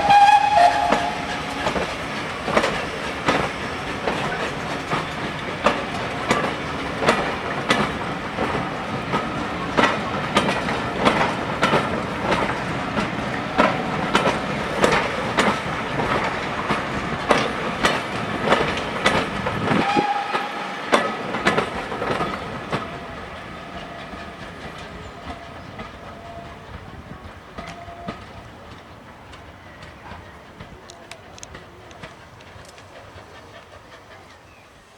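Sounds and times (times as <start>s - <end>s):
train rumble: 0.0s - 34.9s
train wheels clicking over joints: 0.0s - 34.9s.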